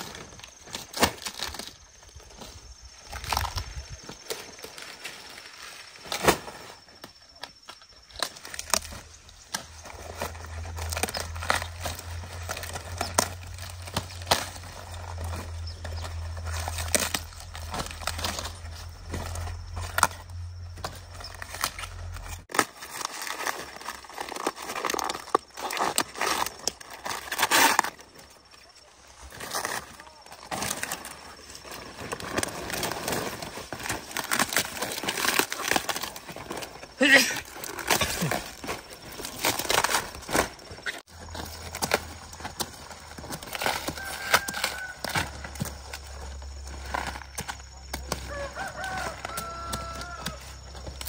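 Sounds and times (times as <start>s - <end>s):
cabbage leaves crackling and snapping: 0.0s - 51.0s.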